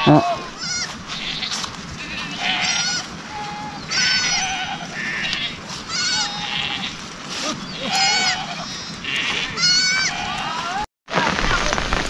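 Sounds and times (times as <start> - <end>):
sheep bleating: 0.0 - 7.1, 7.7 - 10.8.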